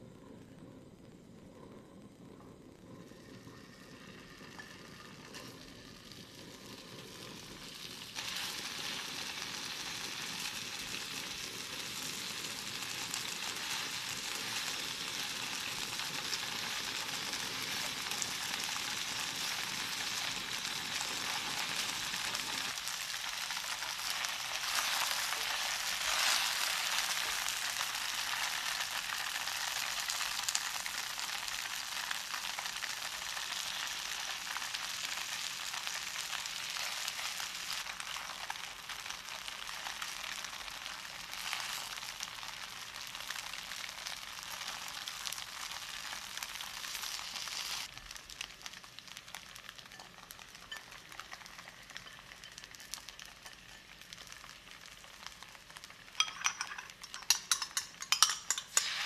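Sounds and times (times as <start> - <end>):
tofu sizzling in hot oil: 3.1 - 59.0.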